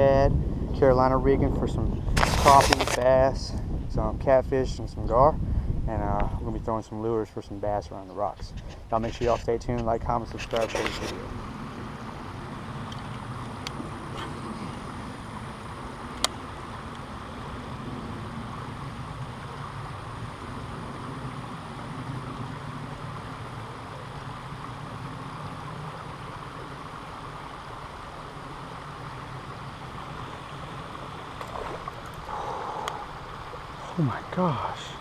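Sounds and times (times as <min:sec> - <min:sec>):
creek water flowing: 0:06.3 - 0:35.0.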